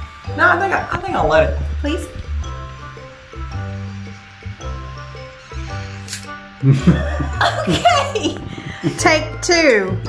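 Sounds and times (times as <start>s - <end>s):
background music with bass notes: 0.0s - 10.0s.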